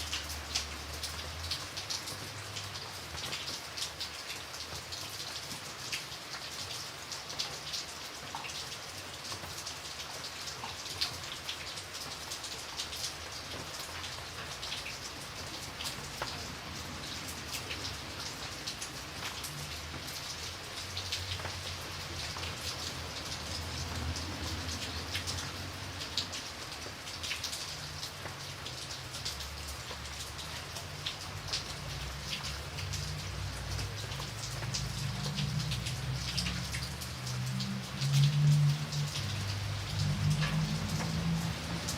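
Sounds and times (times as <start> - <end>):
rain falling on a surface: 0.0 - 41.9.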